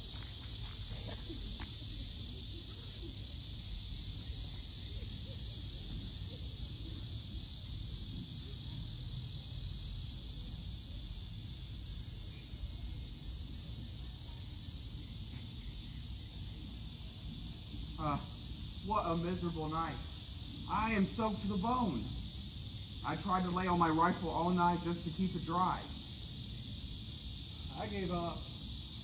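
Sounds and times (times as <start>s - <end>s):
high-pitched hiss: 0.0s - 29.0s.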